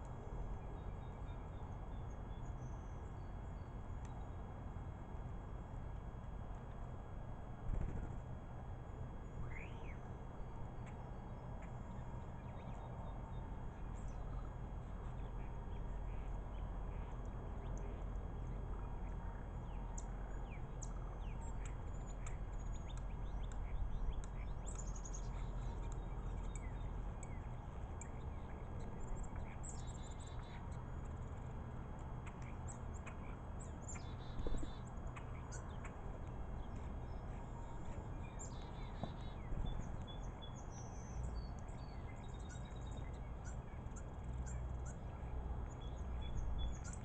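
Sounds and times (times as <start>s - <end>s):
low background rumble: 0.0s - 47.0s
birds chirping: 9.2s - 47.0s.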